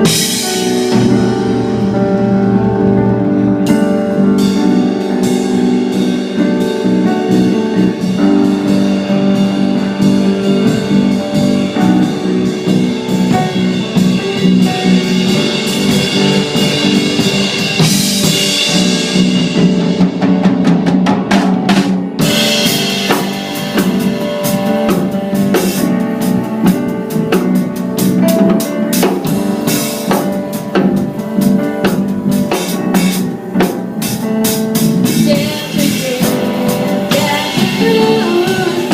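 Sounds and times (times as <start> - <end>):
band playing instrumental: 0.0 - 38.9
drum kit: 0.0 - 38.9.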